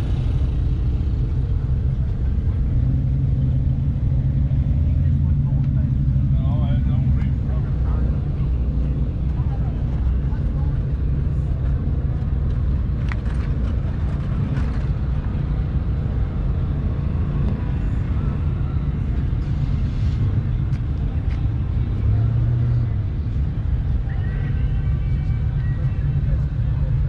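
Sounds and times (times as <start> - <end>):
car engines rumbling: 0.0 - 27.0
low hum: 0.0 - 27.0.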